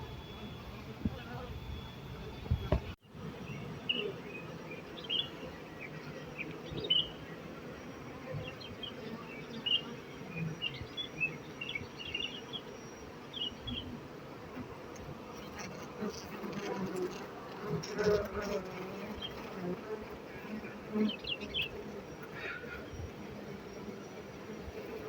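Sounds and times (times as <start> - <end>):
bees buzzing: 0.0 - 3.0, 3.8 - 25.0.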